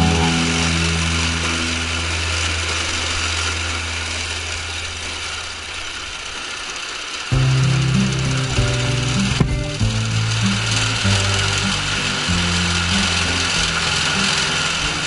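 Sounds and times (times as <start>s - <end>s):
background music: 0.0s - 4.6s, 7.3s - 15.0s
mower mechanical clatter: 0.0s - 15.0s.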